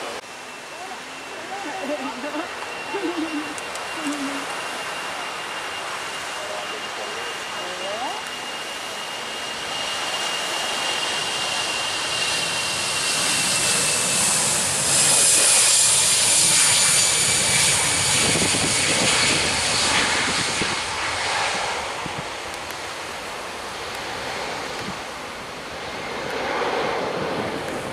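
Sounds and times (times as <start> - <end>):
high engine whine: 0.0 - 27.9
jet airliner passing: 0.0 - 27.9.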